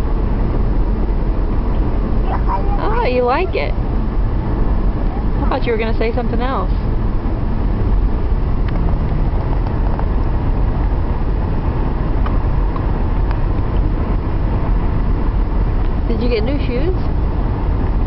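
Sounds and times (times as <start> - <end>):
road and engine rumble: 0.0 - 18.0.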